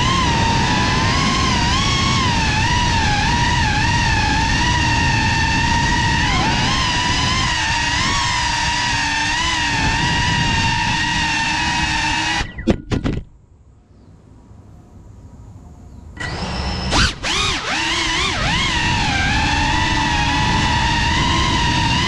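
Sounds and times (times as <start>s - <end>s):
quadcopter motors whining: 0.0s - 12.9s, 16.2s - 22.0s.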